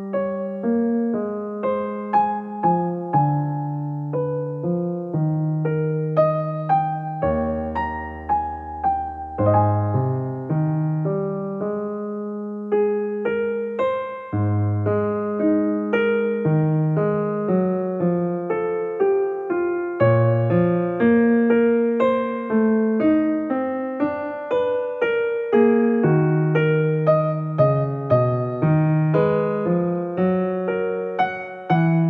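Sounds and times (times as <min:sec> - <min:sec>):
calm piano music: 0:00.0 - 0:32.0.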